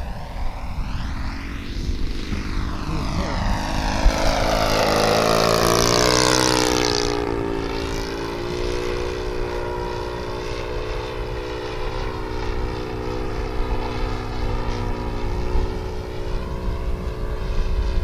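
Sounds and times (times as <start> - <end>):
model airplane engine: 0.0 - 18.0.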